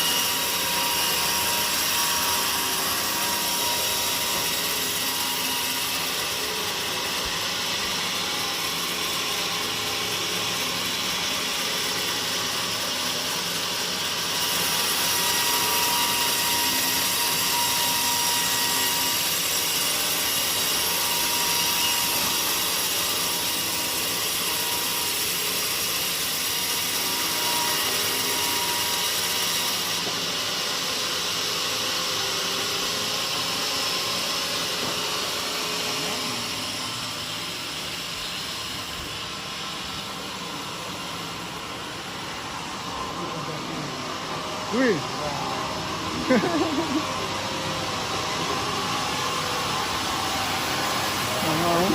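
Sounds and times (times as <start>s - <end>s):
sawmill saw cutting log: 0.0s - 51.9s.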